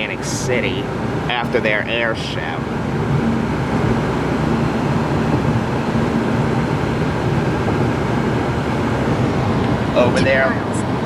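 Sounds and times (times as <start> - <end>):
low engine hum: 0.0 - 11.0
road and tyre noise: 0.0 - 11.0.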